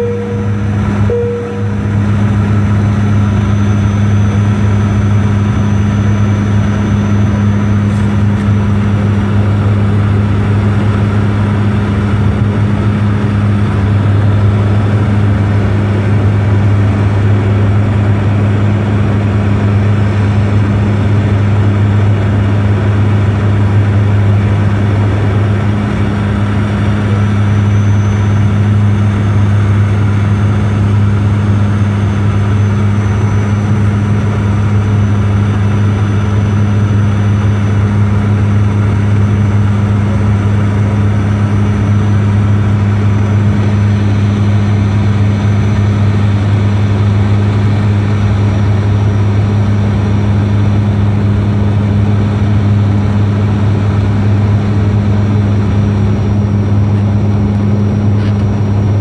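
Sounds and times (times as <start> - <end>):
airliner cabin engine noise: 0.0 - 59.0
faint high whine: 0.0 - 59.0.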